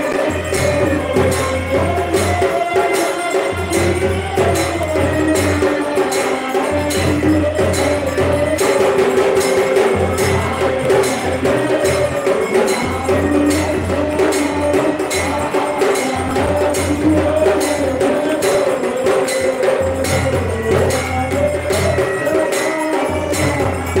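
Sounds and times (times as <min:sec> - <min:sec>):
percussion strikes: 0:00.0 - 0:24.0
ringing metallic sound: 0:00.0 - 0:24.0.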